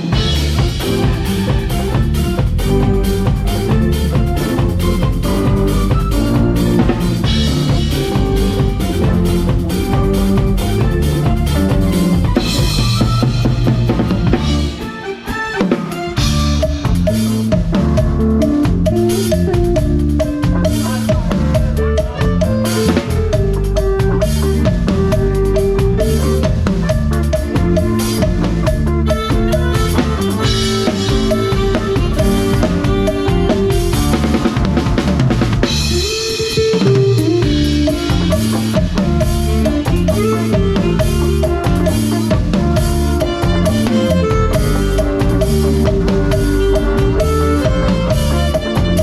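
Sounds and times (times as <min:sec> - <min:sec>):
bass line: 0:00.0 - 0:15.0, 0:15.9 - 0:49.0
drum kit beat: 0:00.0 - 0:49.0
live band playing cha-cha: 0:00.0 - 0:49.0.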